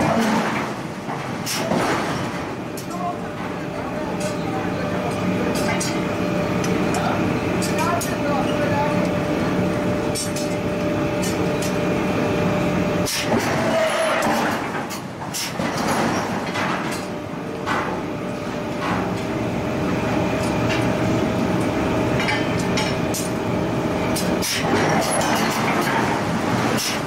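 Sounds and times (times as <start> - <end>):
forging machinery drone: 0.0 - 27.0.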